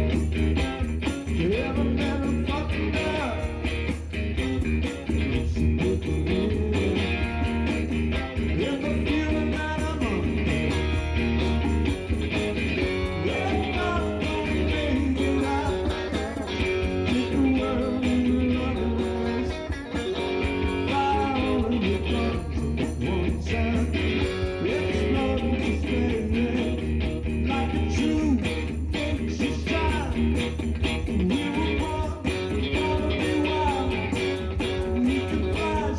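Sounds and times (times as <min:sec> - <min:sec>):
rock music with electric guitar: 0:00.0 - 0:35.9.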